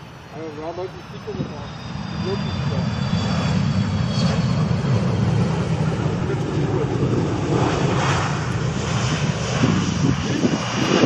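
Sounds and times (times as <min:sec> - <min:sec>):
jet airliner engine rumble: 0:00.0 - 0:11.0.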